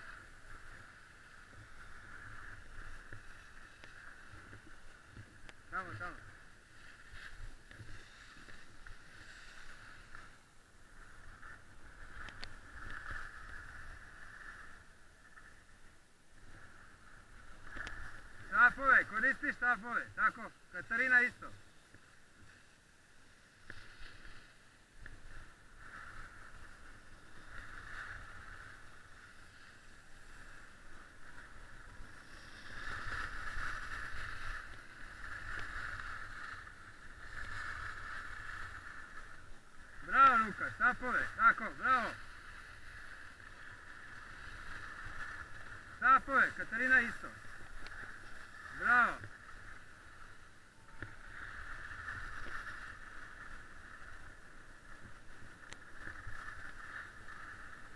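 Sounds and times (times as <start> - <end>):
skis scraping over snow: 0.0 - 15.5, 25.4 - 57.9.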